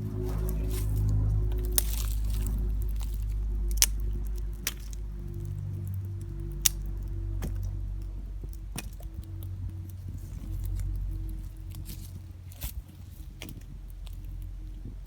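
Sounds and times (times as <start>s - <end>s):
campfire crackling: 0.0s - 15.0s
distant engine hum: 0.0s - 15.0s.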